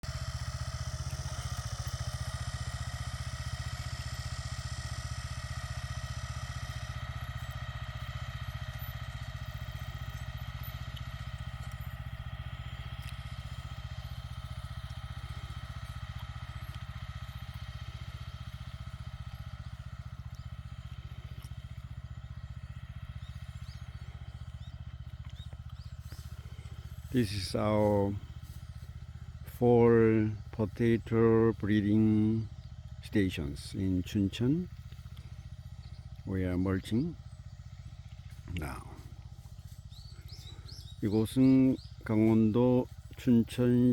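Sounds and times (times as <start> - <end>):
farm machine engine running: 0.0 - 43.9.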